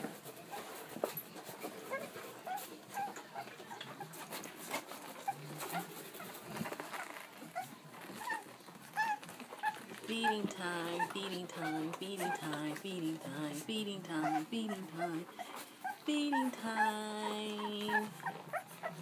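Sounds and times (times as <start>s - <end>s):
faint rustling: 0.0s - 19.0s
puppies squeaking and whimpering: 0.5s - 19.0s.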